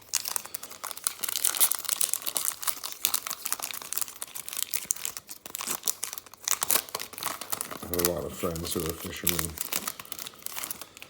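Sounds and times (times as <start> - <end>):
foil card packs crinkling: 0.0 - 11.0.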